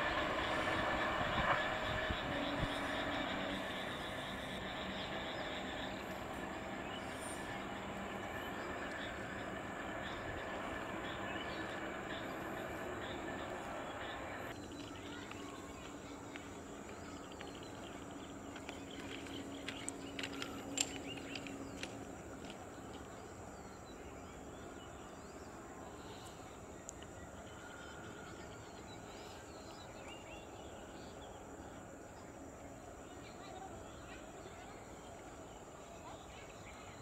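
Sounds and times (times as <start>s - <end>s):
low hum: 0.0s - 33.2s.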